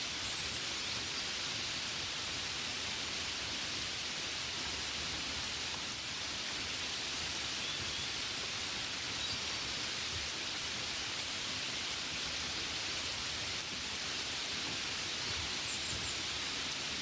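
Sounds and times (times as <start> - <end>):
rain on a window: 0.2 - 17.0.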